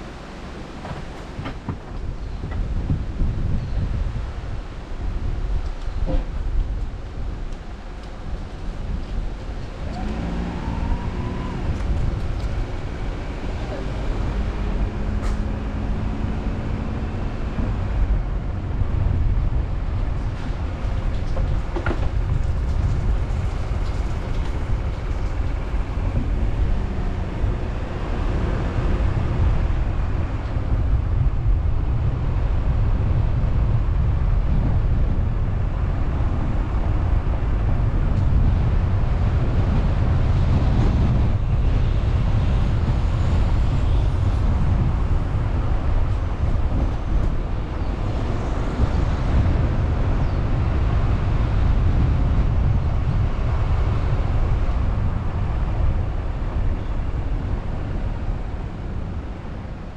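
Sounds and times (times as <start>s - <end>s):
car driving road and engine noise: 0.0s - 59.9s.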